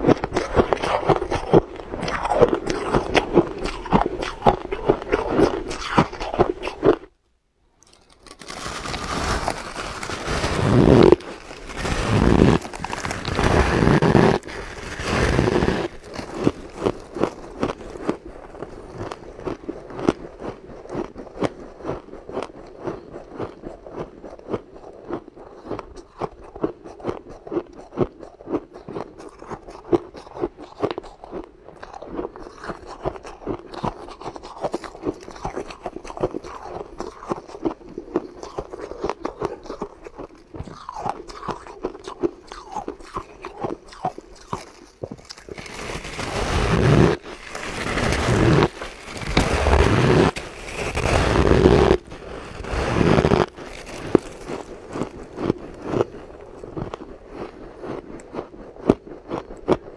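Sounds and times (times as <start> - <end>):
chewing crunchy ice: 0.0 - 7.2, 7.8 - 59.9.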